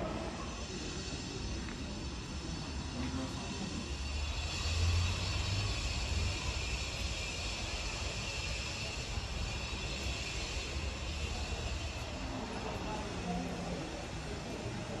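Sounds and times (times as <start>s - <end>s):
city background rumble and hiss: 0.0s - 15.0s.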